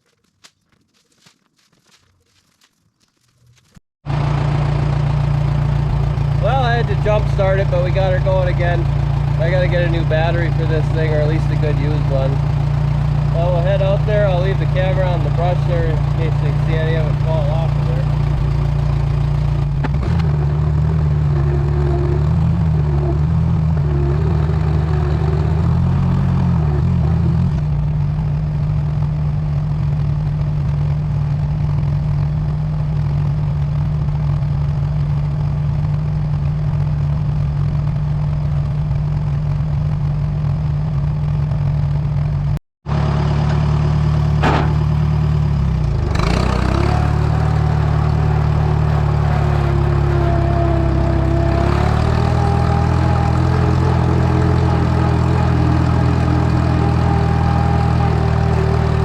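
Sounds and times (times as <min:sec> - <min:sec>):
tractor engine running: 0:00.2 - 0:59.0.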